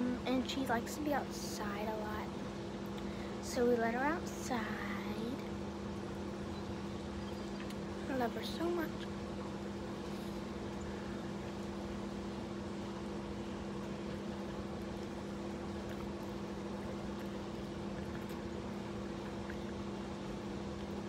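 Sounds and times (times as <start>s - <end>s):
constant hiss: 0.0s - 21.0s
low machine hum: 0.0s - 21.0s.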